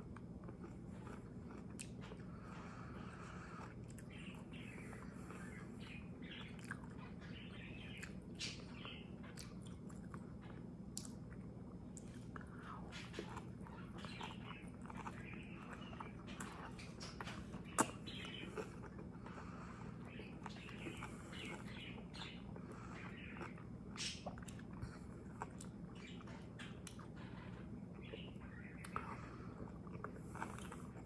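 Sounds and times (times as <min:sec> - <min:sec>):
person chewing: 0:00.0 - 0:05.8, 0:06.4 - 0:07.2, 0:07.9 - 0:27.6, 0:28.3 - 0:31.0
low steady hum: 0:00.0 - 0:31.0.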